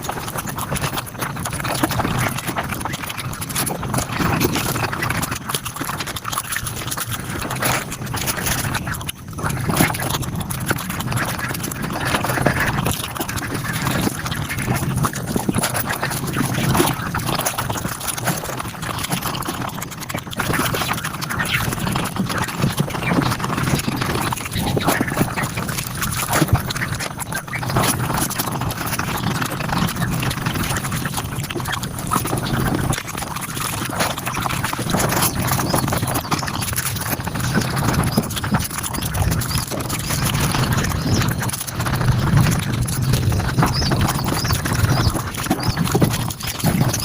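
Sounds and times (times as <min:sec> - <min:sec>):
sped-up chewing and mouth noises: 0:00.0 - 0:47.0.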